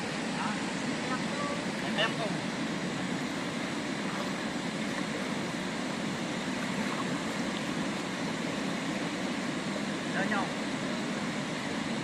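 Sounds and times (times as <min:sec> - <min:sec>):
shallow river water flowing: 0:00.0 - 0:12.0.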